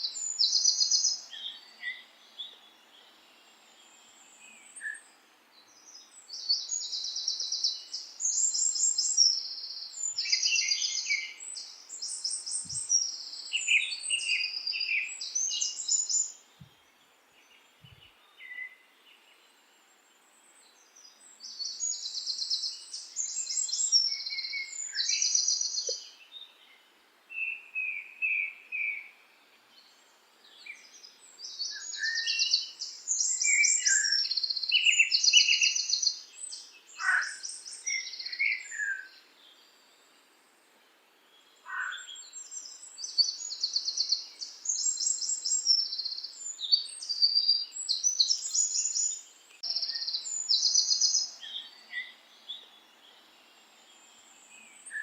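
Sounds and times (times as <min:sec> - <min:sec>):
faint background hiss: 0:00.0 - 0:55.0
songbirds trilling and chirping: 0:00.0 - 0:55.0.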